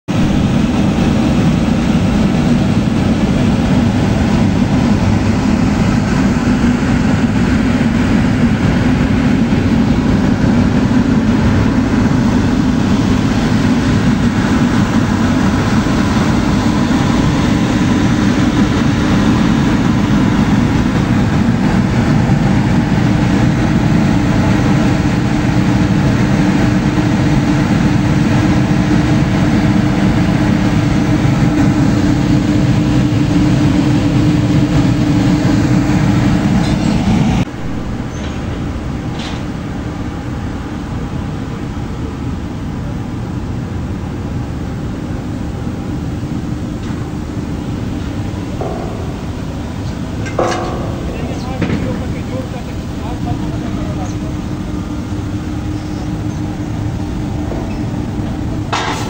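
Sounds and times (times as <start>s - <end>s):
drilling rig machinery drone: 0.1s - 59.0s.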